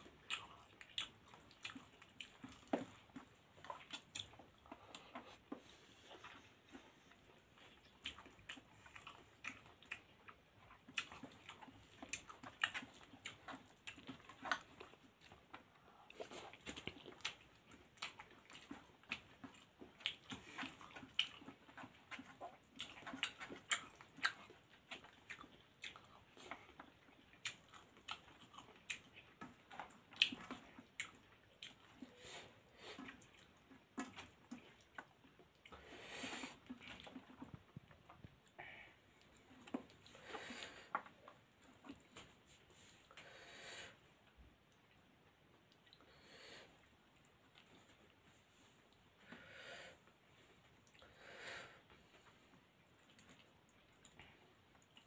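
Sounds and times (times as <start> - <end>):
wet chewing: 0.0 - 43.3, 43.9 - 51.2, 51.8 - 55.0.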